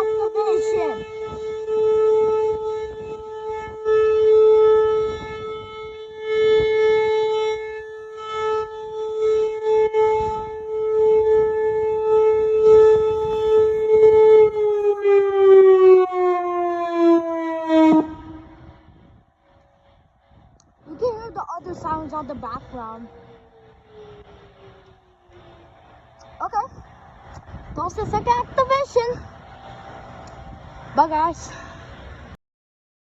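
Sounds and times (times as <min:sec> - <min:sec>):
rotating warning siren: 0:00.0 - 0:32.4.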